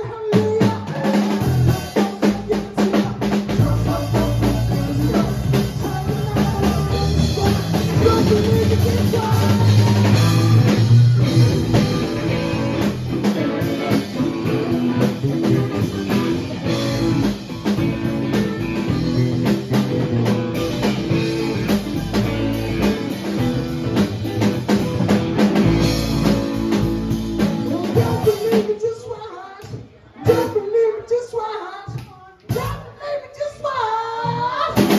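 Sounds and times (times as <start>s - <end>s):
live rock band playing: 0.3s - 28.9s.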